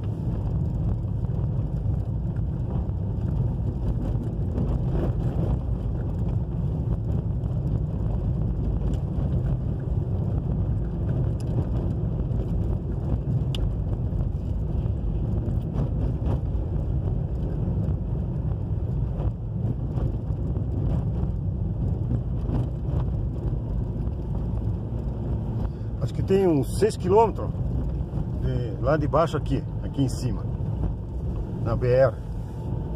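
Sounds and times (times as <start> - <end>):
car driving on dirt road: 0.0 - 32.9.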